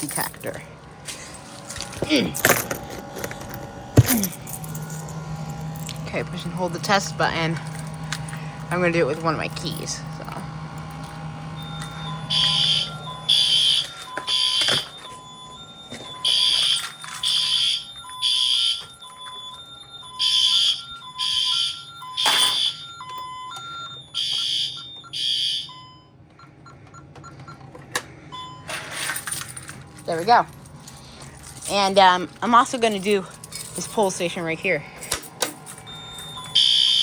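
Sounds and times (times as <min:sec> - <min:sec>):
fire alarm beeping: 0:00.0 - 0:37.0.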